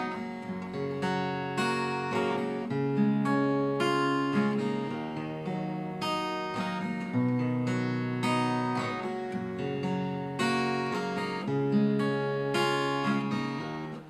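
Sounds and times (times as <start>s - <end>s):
acoustic guitar picking and strumming: 0.0s - 14.0s.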